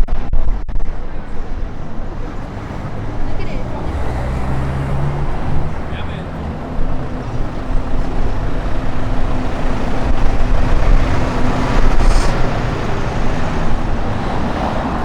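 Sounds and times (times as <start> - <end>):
faint engine hum: 0.0 - 15.0
street traffic: 0.0 - 15.0
wind buffeting microphone: 0.0 - 15.0.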